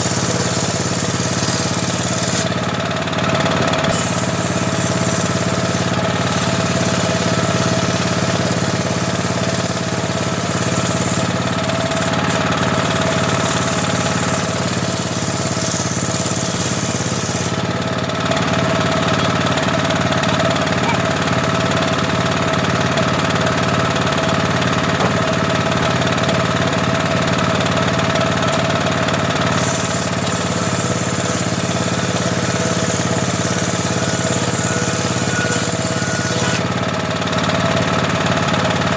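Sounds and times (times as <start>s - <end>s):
table saw cutting wood: 0.0s - 38.9s.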